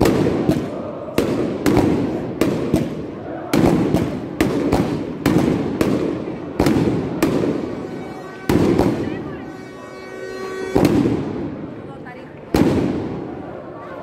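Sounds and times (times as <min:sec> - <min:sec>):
fireworks bursting overhead: 0:00.0 - 0:13.6.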